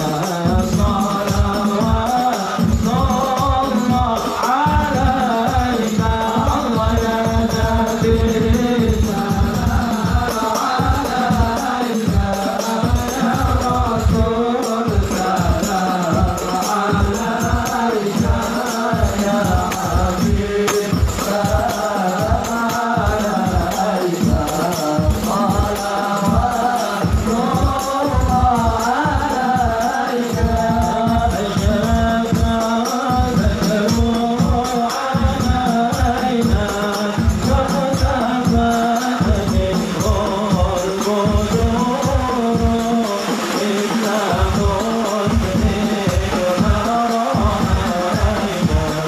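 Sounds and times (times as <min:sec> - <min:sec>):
devotional group singing: 0:00.0 - 0:49.0
hand drums beating: 0:00.0 - 0:49.0.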